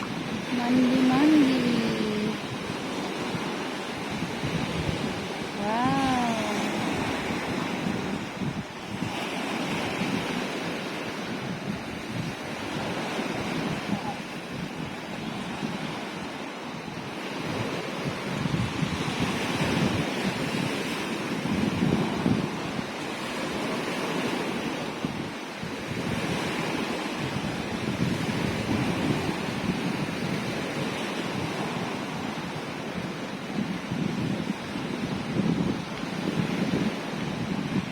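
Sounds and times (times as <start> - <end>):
sea waves washing in: 0.0 - 37.9
wind buffeting microphone: 0.0 - 37.9.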